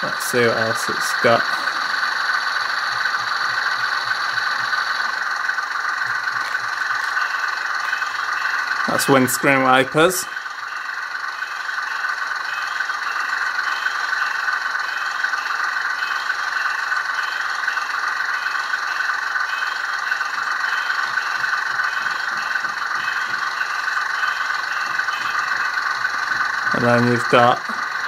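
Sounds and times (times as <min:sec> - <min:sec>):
diesel shunter engine idling: 0:00.0 - 0:28.0.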